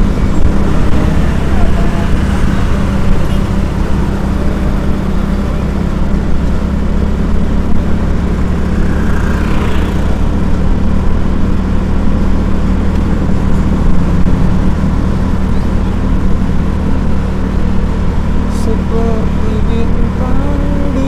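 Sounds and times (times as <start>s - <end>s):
road and wind noise: 0.0s - 21.0s
vehicle engine hum: 0.0s - 21.0s.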